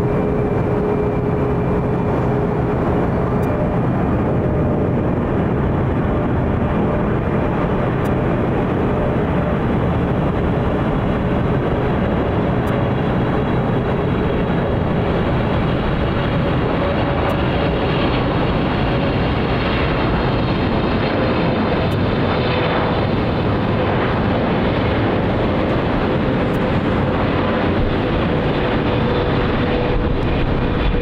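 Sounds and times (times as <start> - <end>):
jet engines rushing: 0.0 - 31.0.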